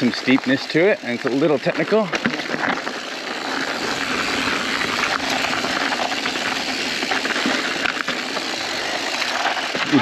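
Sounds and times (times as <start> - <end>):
bike tyres sliding over dry dirt: 0.0 - 10.0.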